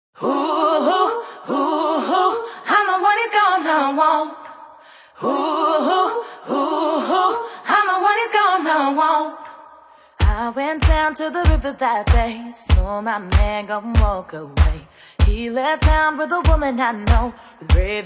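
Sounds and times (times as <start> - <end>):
woman singing a cappella: 0.2 - 18.0.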